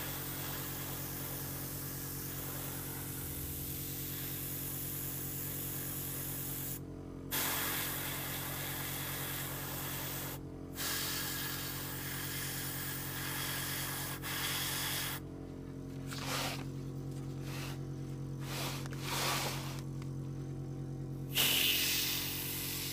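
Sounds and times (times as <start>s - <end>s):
airbrush spraying hiss: 0.0s - 15.2s, 16.1s - 16.7s, 18.4s - 19.9s, 21.3s - 22.9s
steady low hum: 0.0s - 22.9s.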